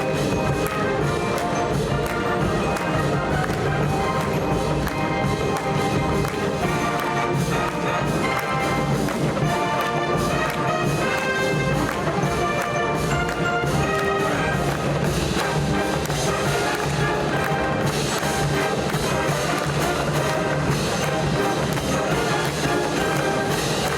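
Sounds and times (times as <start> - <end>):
brass chords: 0.0 - 23.9
steady drum beat: 0.0 - 23.9.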